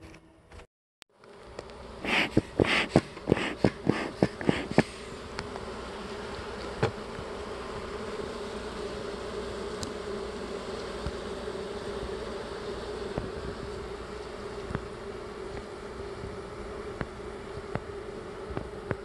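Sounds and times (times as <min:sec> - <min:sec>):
bee smoker bellows puffing: 0:01.2 - 0:19.0
honeybees humming: 0:01.2 - 0:19.0.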